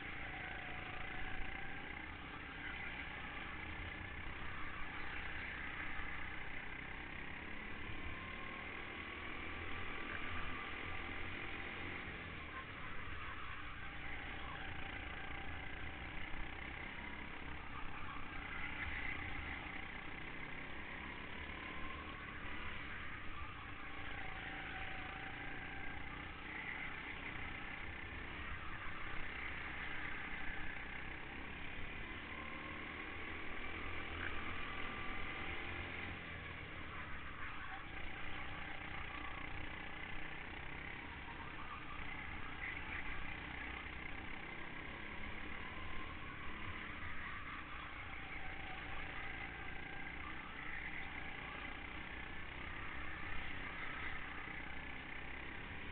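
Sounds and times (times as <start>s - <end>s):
go-kart engine racing: 0.0s - 55.9s.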